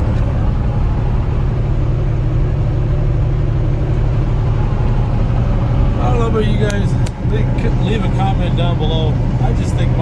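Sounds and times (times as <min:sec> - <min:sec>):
engine drone: 0:00.0 - 0:10.0
road rumble: 0:00.0 - 0:10.0.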